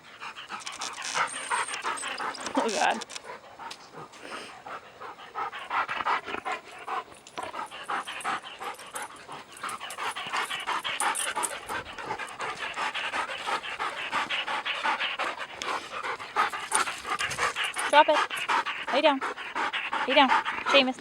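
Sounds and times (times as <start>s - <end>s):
dog panting: 0.0s - 21.0s.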